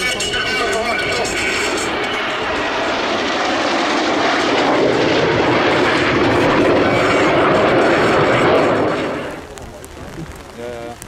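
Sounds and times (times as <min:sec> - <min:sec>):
jet engine roaring: 0:00.0 - 0:10.5.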